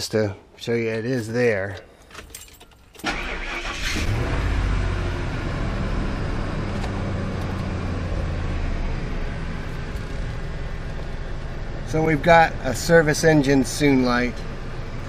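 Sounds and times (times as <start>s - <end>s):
van engine starting and idling: 2.9s - 15.0s.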